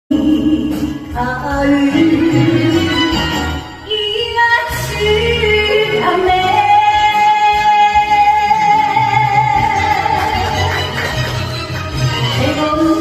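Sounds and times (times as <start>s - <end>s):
woman singing: 0.1s - 10.9s, 12.2s - 13.0s
karaoke backing track: 0.1s - 13.0s.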